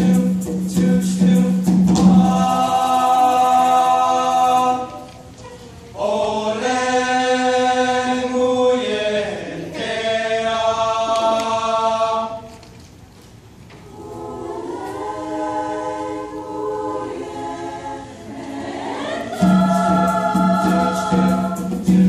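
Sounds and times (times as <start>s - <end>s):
mixed choir singing held chords: 0.0s - 5.1s, 5.9s - 12.5s, 13.8s - 22.0s.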